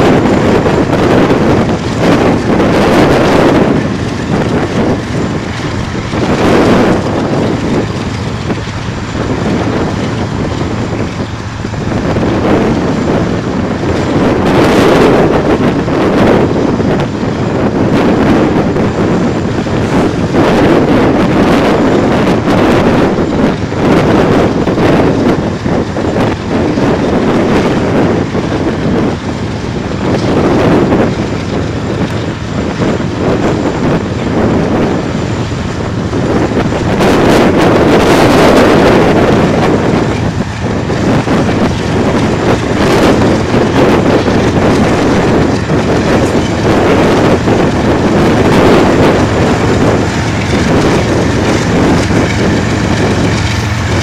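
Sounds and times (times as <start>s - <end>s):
diesel locomotives passing: 0.0s - 54.0s
wind buffeting microphone: 0.0s - 54.0s.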